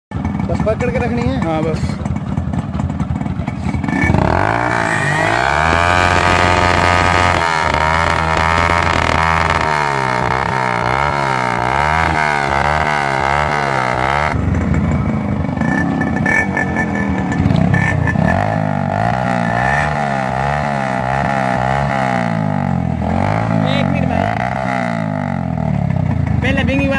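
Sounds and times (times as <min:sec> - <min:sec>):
motorcycle engines revving: 0:00.1 - 0:26.9.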